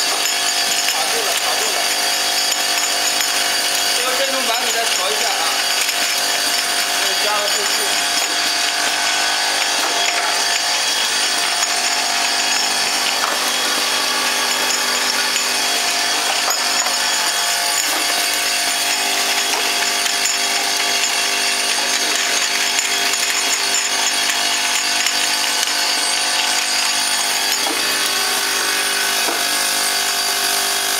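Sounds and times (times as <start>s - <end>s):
held machine tones: 0.0s - 30.3s
bottling machine running: 0.0s - 30.9s.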